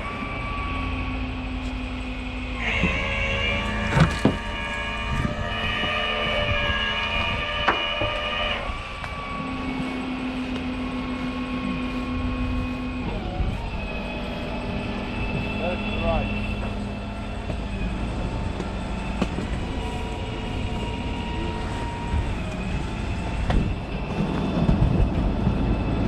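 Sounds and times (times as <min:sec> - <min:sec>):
truck winch hydraulics whining: 0:00.0 - 0:26.0.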